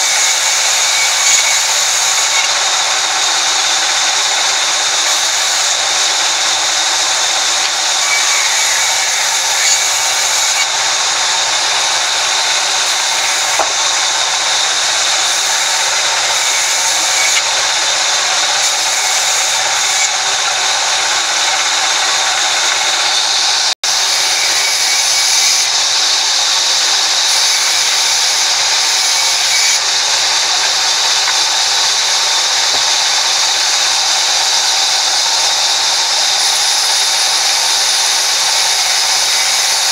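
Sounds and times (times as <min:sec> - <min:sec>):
band saw cutting a log: 0:00.0 - 0:39.9.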